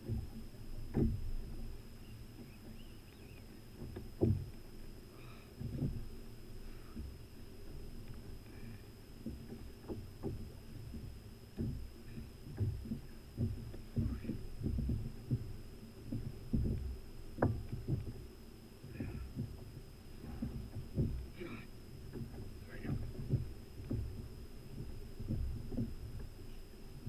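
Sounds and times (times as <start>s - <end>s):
small waves slapping a kayak hull: 0.0s - 27.0s.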